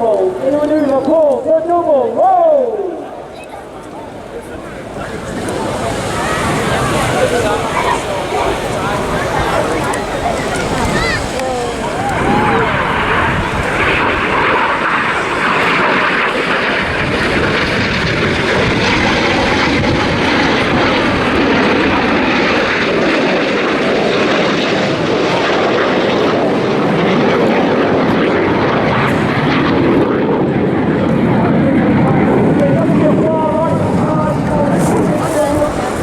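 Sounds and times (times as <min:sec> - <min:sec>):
jet roar: 0:00.0 - 0:36.0.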